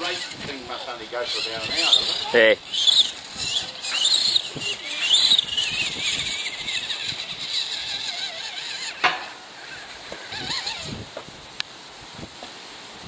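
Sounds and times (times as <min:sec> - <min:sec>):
electric motor and gears whining: 0:00.0 - 0:11.3.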